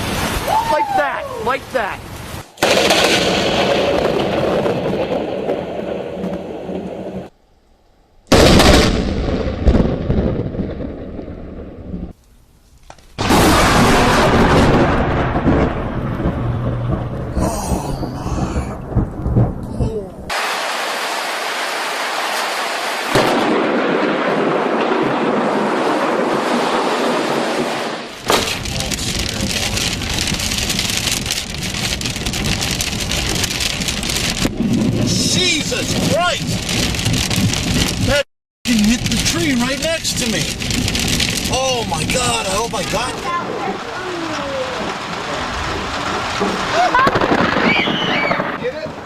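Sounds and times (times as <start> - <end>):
heavy rain: 0.0 - 7.3, 13.2 - 49.0
rumbling thunder: 2.6 - 7.3, 8.3 - 12.2, 13.2 - 20.5, 23.1 - 49.0.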